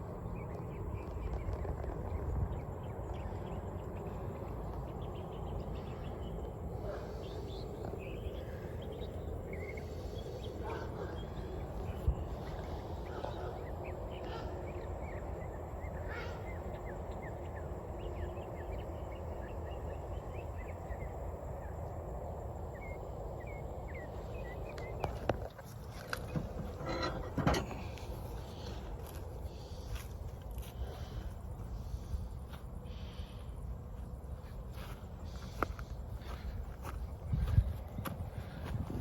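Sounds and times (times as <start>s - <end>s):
small birds chirping: 0.0s - 39.0s
steady low rumble: 0.0s - 39.0s.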